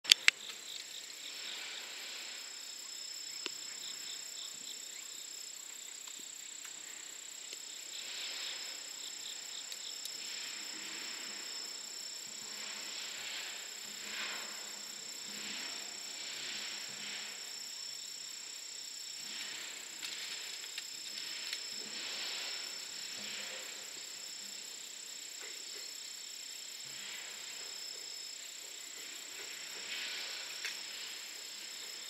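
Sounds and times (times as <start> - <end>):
fast pulsing insect chirp: 0.1 - 32.0
high-pitched insect drones: 0.1 - 32.0
insects shrilling: 0.1 - 32.0.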